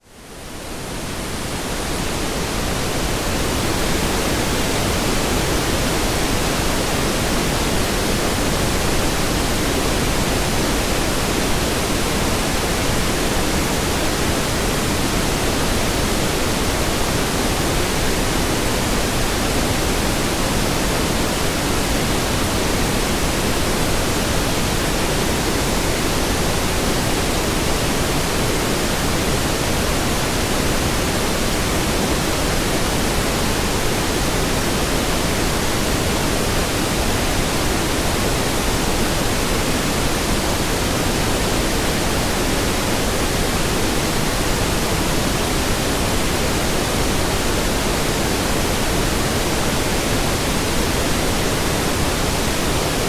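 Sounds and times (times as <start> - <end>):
steady pink noise hiss: 0.0 - 53.0.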